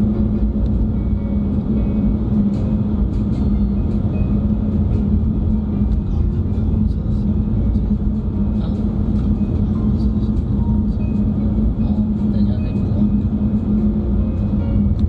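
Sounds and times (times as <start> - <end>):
car interior road and engine rumble: 0.0 - 15.0.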